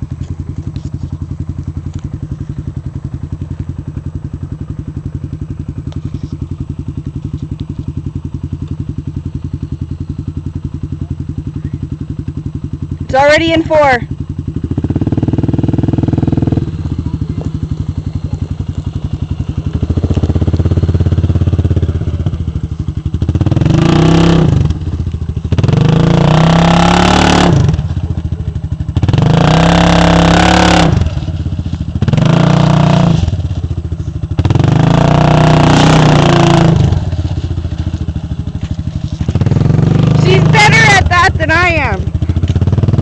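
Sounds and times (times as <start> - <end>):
quad engine revving: 5.8 - 43.0.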